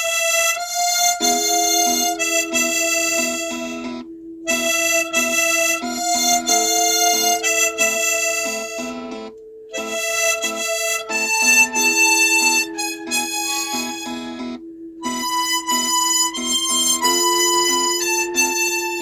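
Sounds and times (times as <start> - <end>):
melody of long held notes: 0.0 - 19.0
repeating plucked accompaniment: 0.6 - 19.0.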